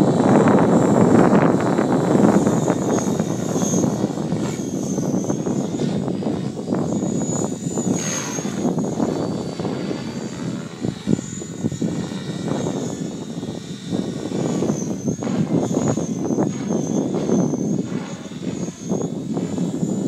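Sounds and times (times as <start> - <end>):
model helicopter whine: 0.0 - 20.0
steady rushing noise: 0.0 - 20.0.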